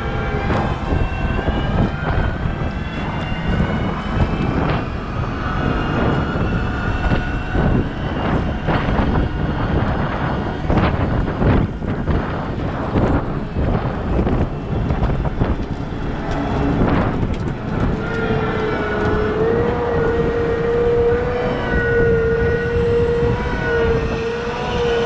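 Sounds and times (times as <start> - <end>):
loader engine whine under load: 0.0 - 25.0.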